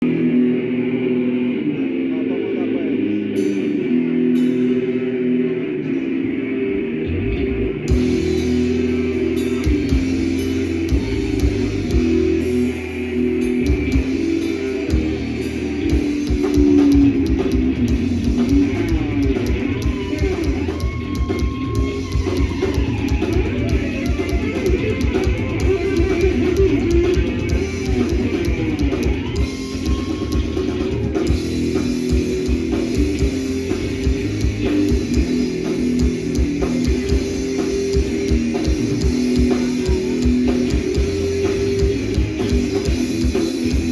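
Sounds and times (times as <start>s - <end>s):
distorted electric guitars: 0.0s - 43.9s
fast drum kit: 7.9s - 43.9s.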